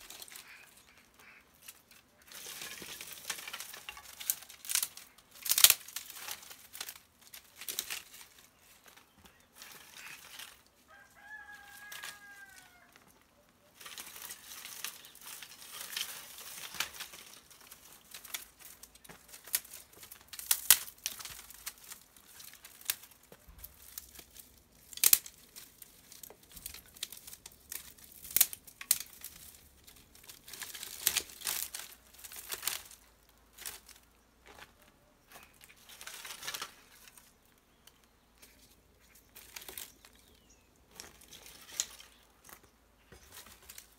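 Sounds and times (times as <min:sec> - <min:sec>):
dry sticks snapping and crackling: 0:00.0 - 0:43.9.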